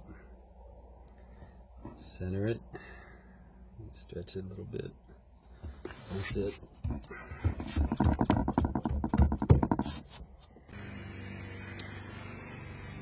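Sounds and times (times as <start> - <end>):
steady low hum: 0.0 - 8.4, 10.2 - 13.0.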